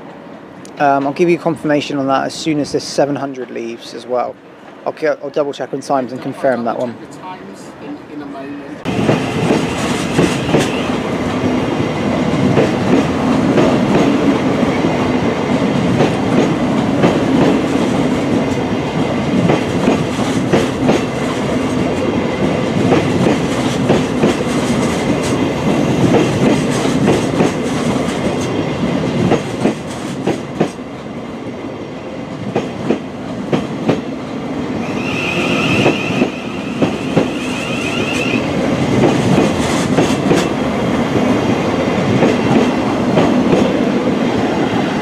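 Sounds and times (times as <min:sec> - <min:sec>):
train running past: 0:00.0 - 0:45.0.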